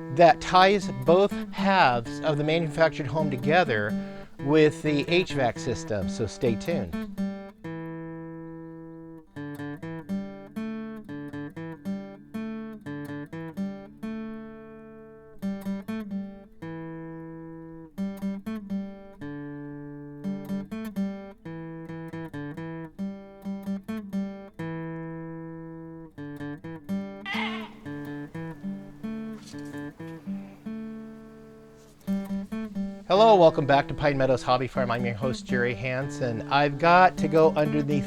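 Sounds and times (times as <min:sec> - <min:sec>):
acoustic guitar picking and strumming: 0:00.0 - 0:38.0.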